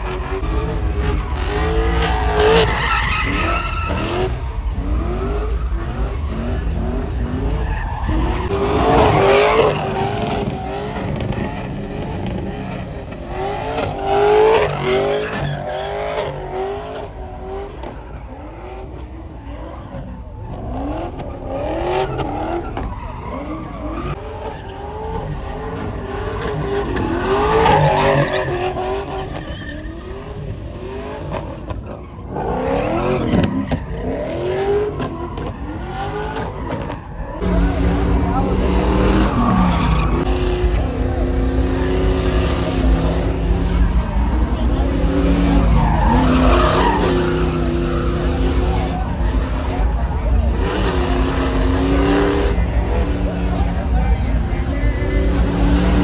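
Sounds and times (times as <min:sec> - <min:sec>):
engine revving: 0:00.0 - 0:56.0
truck tires squealing: 0:00.0 - 0:56.0.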